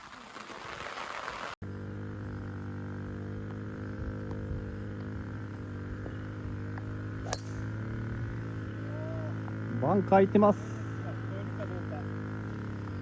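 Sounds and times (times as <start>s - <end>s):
golf cart motor humming: 1.6s - 13.0s.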